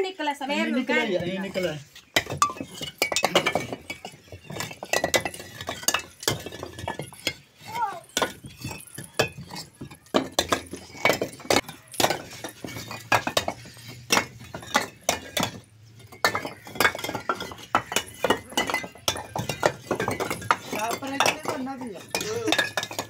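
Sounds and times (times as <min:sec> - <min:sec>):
bricks clacking together: 0:01.4 - 0:23.0.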